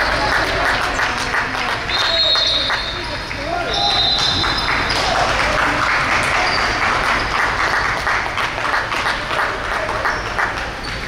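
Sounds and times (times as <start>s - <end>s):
crowd cheering: 0.0s - 11.0s
crowd clapping: 0.0s - 11.0s.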